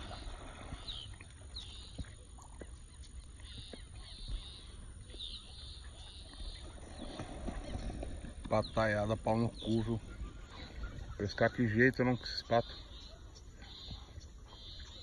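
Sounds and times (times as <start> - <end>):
ducks calling: 0.0 - 15.0.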